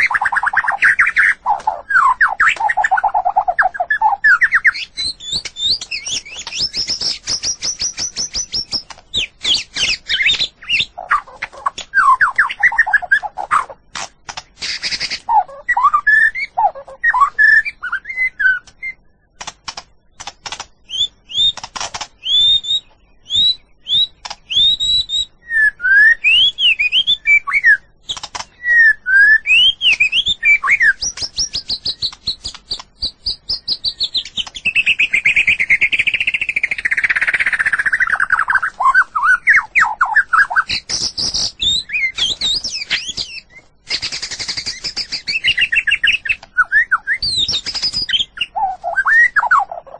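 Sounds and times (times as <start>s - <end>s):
bird singing whistled notes: 0.0s - 13.8s, 14.6s - 19.4s, 20.8s - 21.6s, 22.2s - 49.9s
bird sharp clicks: 0.0s - 15.9s, 18.6s - 23.0s, 24.2s - 24.6s, 28.1s - 28.8s, 29.4s - 49.8s.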